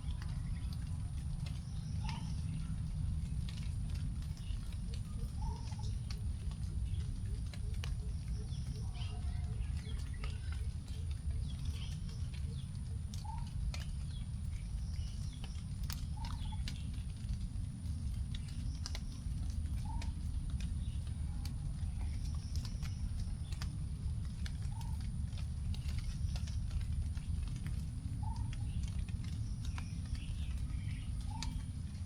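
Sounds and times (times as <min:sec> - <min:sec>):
raindrops dripping on leaves: 0:00.0 - 0:32.0
steady low rumble: 0:00.0 - 0:32.0.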